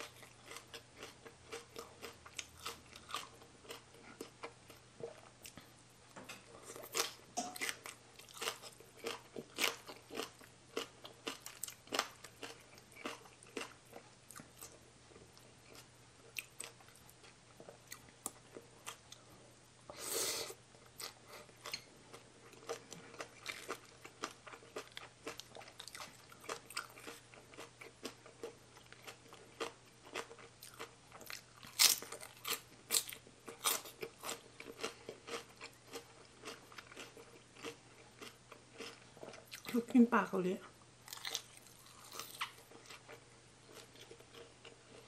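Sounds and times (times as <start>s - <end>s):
wet chewing and crunching: 0.0s - 5.7s, 6.4s - 19.3s, 20.8s - 39.8s, 41.0s - 45.0s.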